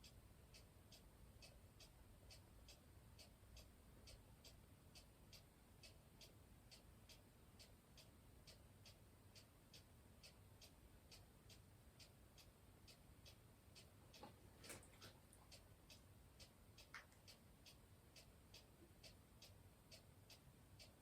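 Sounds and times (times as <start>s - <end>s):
faint regular ticking: 0.0s - 21.0s.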